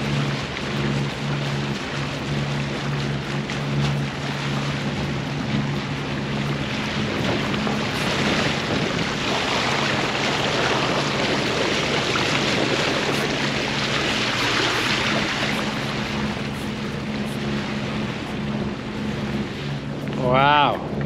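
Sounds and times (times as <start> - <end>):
boat engine humming: 0.0 - 21.0
bow wave rushing along hull: 0.0 - 21.0
wind on microphone: 0.0 - 21.0.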